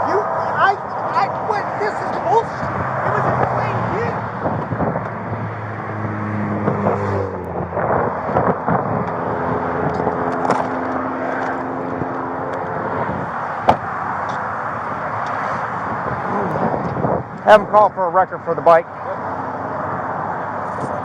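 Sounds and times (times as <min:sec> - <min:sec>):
vehicle engines and road traffic: 0:00.0 - 0:21.0.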